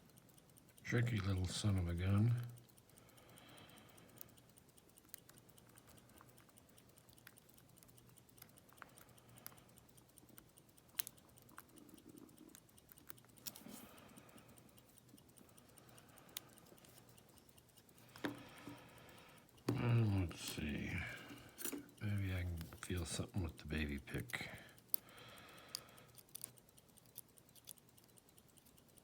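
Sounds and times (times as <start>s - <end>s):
low steady hum: 0.2s - 27.8s.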